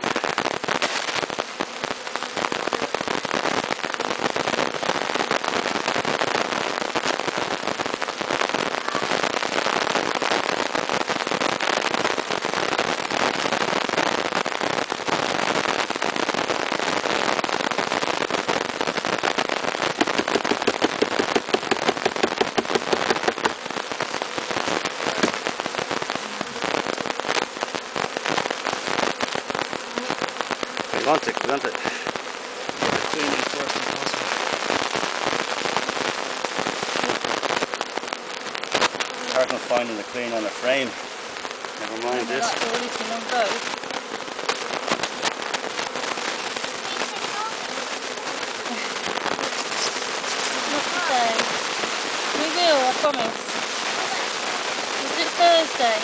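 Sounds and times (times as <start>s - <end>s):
bees buzzing: 0.0s - 56.0s
bees crawling rustle: 0.0s - 56.0s.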